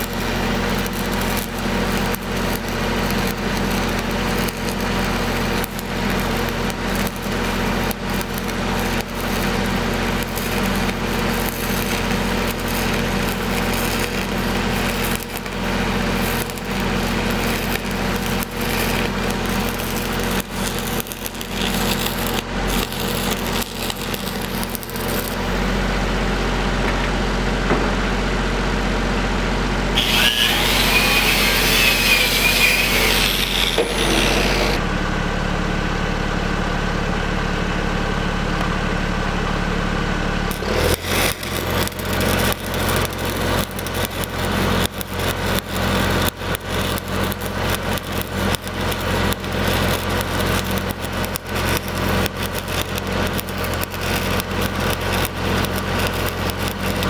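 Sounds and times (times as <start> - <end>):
hissing burst with high squeal: 0.0 - 25.5, 30.0 - 34.8, 40.6 - 57.0
welding arc crackling: 0.0 - 25.7, 30.0 - 34.8, 40.5 - 57.0
welder engine running: 0.0 - 26.0, 29.9 - 35.5, 36.6 - 57.0.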